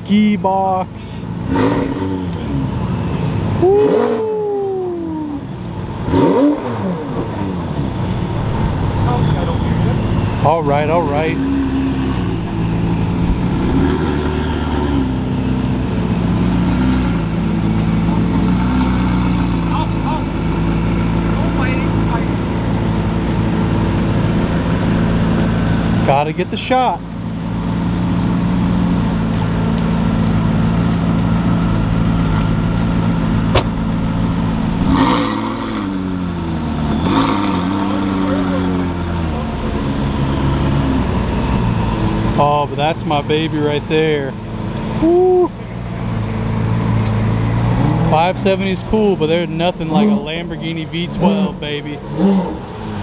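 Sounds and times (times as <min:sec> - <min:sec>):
car engine idling: 0:00.0 - 0:53.0
engine revving: 0:00.6 - 0:53.0.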